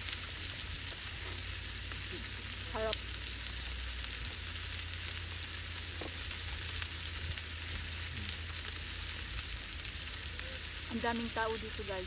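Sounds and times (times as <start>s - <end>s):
meat sizzling on grill pan: 0.0s - 12.0s.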